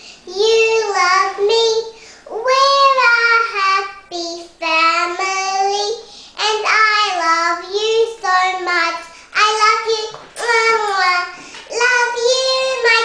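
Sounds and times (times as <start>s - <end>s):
girl singing unaccompanied: 0.0s - 13.0s.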